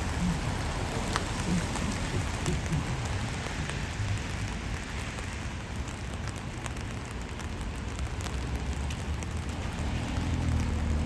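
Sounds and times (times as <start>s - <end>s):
rain drop ticks: 0.0s - 11.0s
steady rain: 0.0s - 11.0s.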